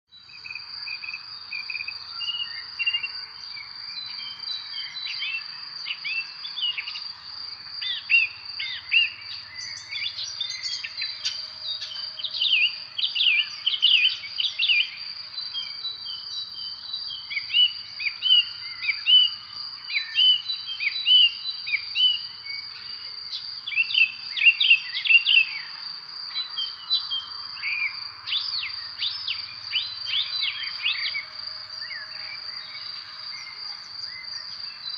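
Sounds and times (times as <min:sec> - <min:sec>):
birds chirping: 0:00.1 - 0:34.9
insect trill: 0:00.1 - 0:34.9.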